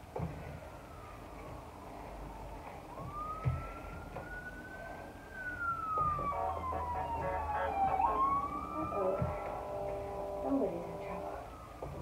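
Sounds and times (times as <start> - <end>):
siren wailing: 0.8 - 12.0.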